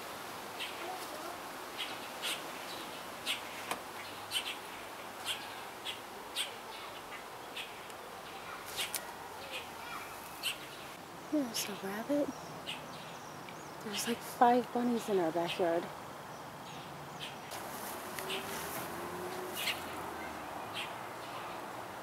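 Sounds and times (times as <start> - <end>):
background hiss: 0.0 - 22.0
small birds chirping: 0.6 - 21.7.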